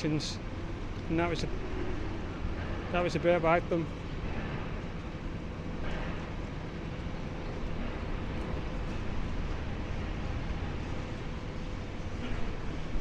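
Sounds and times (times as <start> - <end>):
diesel engine low drone: 0.0 - 13.0.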